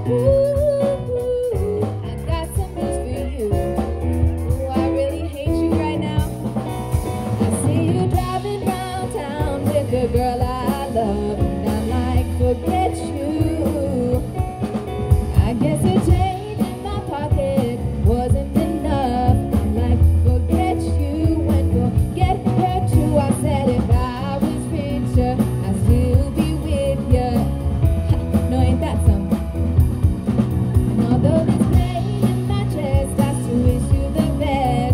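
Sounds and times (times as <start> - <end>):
woman singing: 0.0 - 6.8, 7.4 - 29.6, 31.0 - 34.9
drum kit: 0.0 - 34.9
keyboard: 0.0 - 34.9
upright double bass: 0.0 - 34.9.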